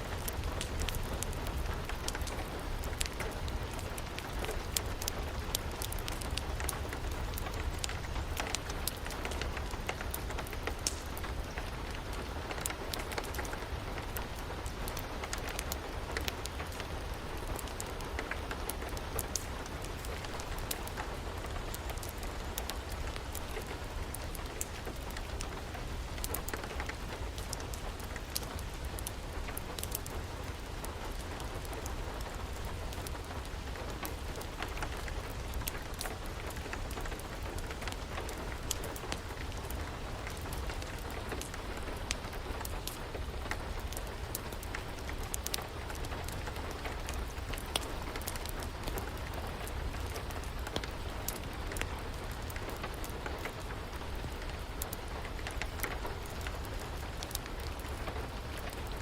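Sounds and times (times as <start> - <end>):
steady rain falling: 0.0 - 59.0
wood fire crackling: 0.0 - 59.0.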